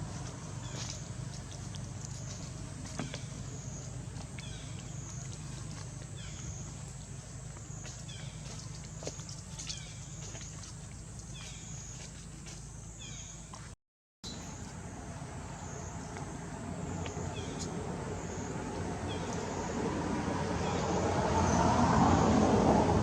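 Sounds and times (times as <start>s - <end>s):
low steady rumble: 0.0s - 13.6s, 14.3s - 23.0s.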